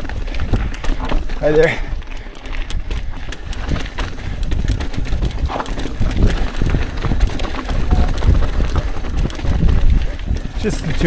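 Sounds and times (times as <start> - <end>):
bike rattling over bumps: 0.0 - 11.0
wind rumble on microphone: 0.0 - 11.0.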